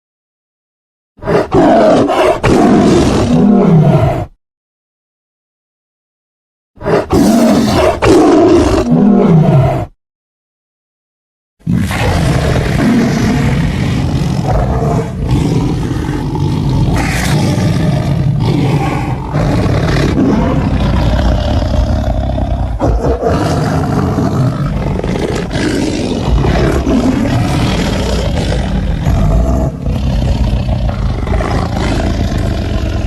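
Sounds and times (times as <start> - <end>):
tiger growling and roaring: 1.2 - 4.4, 6.8 - 10.0, 11.6 - 33.0.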